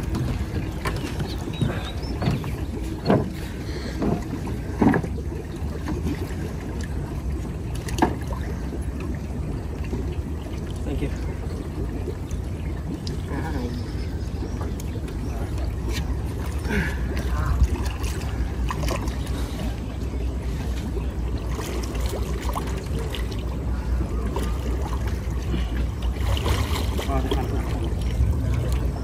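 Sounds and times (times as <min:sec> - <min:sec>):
steady low rumble: 0:00.0 - 0:29.0
water sloshing and splashing: 0:00.0 - 0:29.0.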